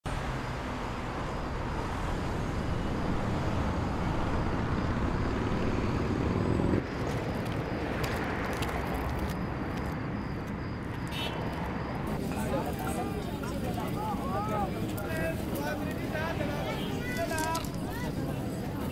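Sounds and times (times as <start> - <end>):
street traffic rumble: 0.0 - 18.9.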